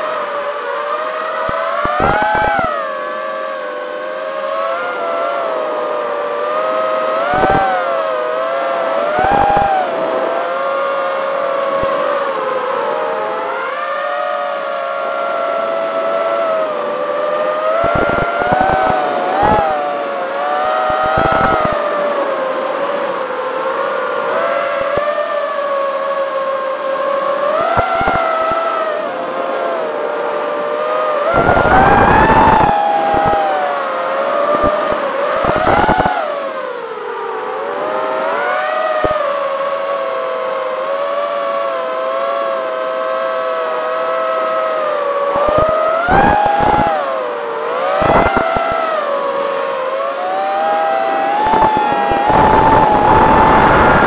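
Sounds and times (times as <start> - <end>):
quadcopter motors whining: 0.0 - 40.4, 41.0 - 54.0
wind rushing on microphone: 0.0 - 40.4, 41.0 - 54.0.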